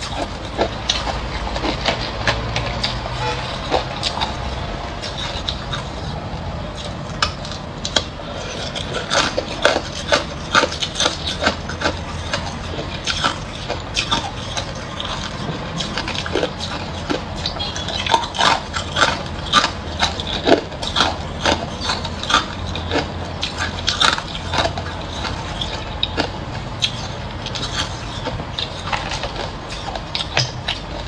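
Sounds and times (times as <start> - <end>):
ice being chewed: 0.0 - 31.0.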